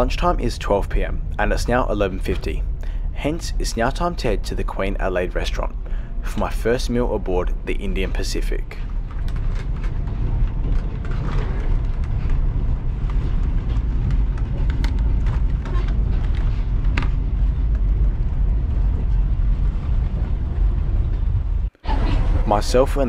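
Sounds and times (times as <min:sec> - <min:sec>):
train carriage rumbling on rails: 0:00.0 - 0:23.0.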